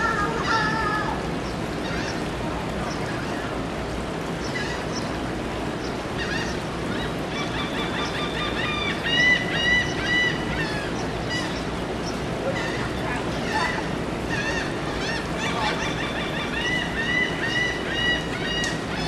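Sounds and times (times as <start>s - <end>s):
gulls calling: 0.0s - 19.0s
steady background hiss: 0.0s - 19.0s.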